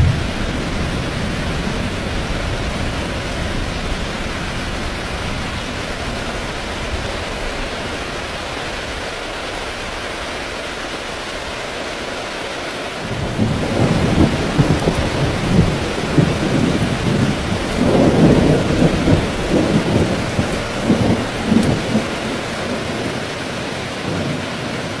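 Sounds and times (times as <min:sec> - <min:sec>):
rolling thunder: 0:00.0 - 0:10.4, 0:13.1 - 0:23.4
heavy rain hissing: 0:00.0 - 0:25.0.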